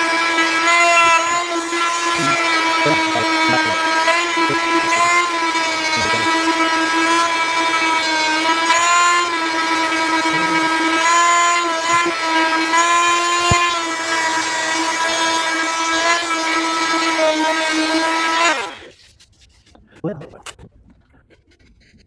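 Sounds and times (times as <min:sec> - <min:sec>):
oscillating multi-tool sanding wood: 0:00.0 - 0:19.7.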